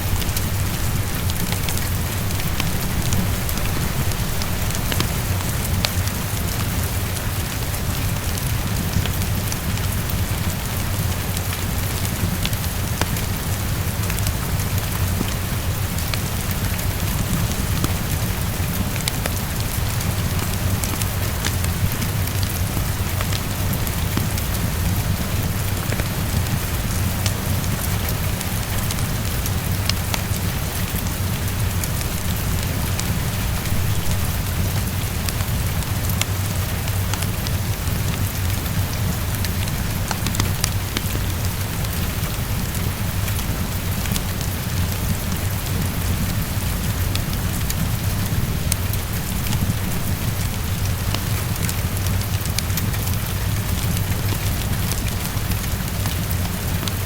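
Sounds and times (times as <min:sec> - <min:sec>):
heavy rain on a window: 0:00.0 - 0:57.0.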